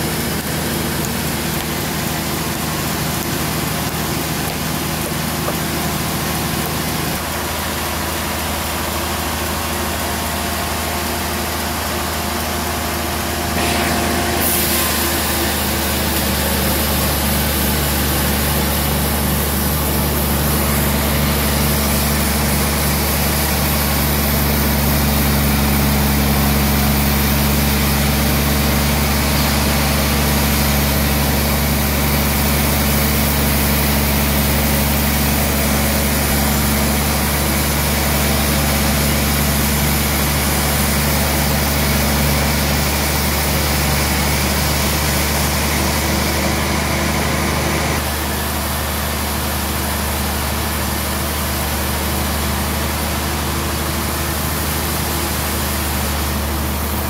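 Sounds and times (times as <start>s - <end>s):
bandsaw machine hum: 0.0s - 57.0s.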